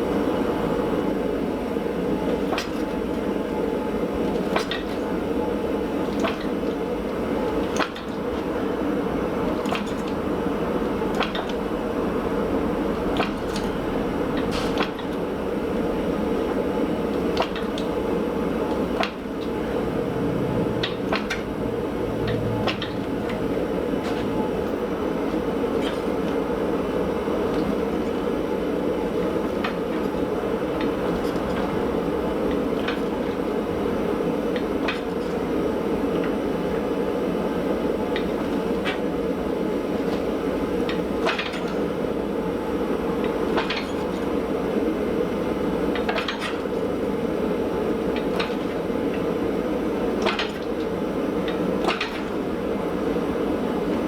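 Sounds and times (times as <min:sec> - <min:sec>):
roaring workshop hum: 0:00.0 - 0:54.0.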